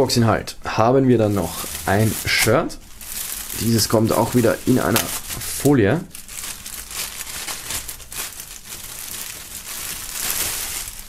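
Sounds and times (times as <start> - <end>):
plastic bag crinkling: 1.2 - 11.0.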